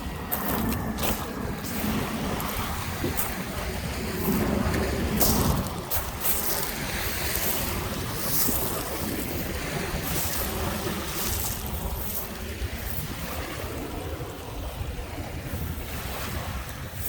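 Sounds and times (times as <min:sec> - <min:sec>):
waves washing onto beach: 0:00.0 - 0:17.0
wind rumbling on microphone: 0:00.0 - 0:17.0.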